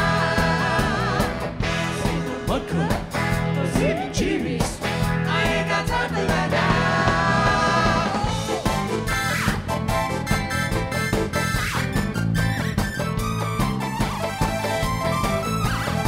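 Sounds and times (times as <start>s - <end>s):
band playing funk-rock: 0.0s - 16.0s.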